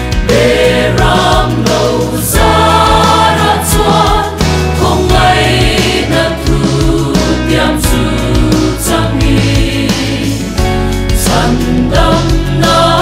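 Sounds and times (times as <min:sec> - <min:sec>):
low instrumental accompaniment: 0:00.0 - 0:13.0
mixed choir singing a hymn: 0:00.0 - 0:13.0.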